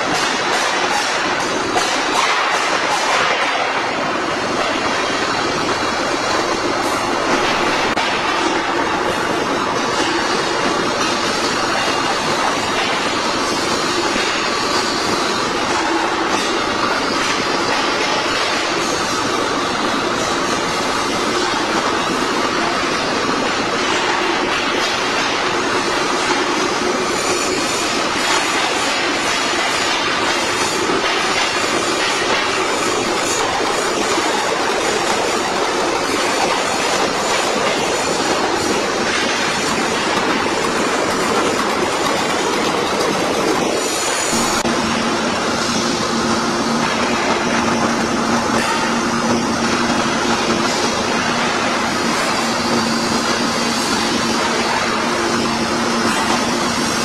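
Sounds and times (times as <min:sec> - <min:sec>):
metal-spinning machine: 0:00.0 - 0:57.0.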